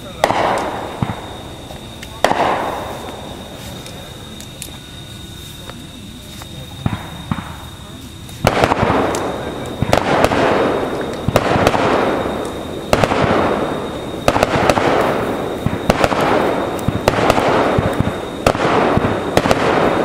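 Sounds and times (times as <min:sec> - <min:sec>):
firework hiss and crackles: 0:00.0 - 0:20.0
fireworks bangs: 0:00.0 - 0:20.0.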